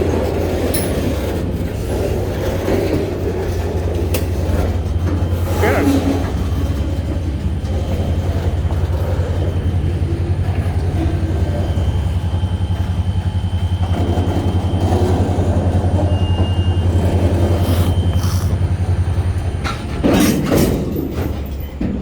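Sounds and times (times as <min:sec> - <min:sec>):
diesel locomotive engines rumbling: 0:00.0 - 0:22.0.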